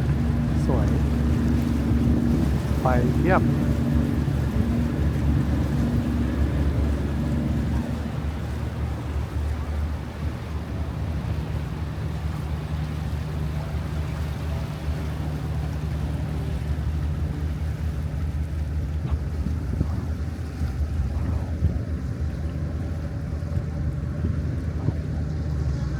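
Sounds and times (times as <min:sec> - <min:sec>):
boat engine droning: 0:00.0 - 0:25.9.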